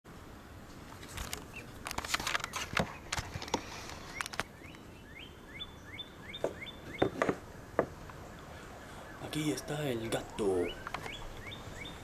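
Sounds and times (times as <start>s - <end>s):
bird chirping: 1.2s - 3.1s, 3.8s - 12.0s.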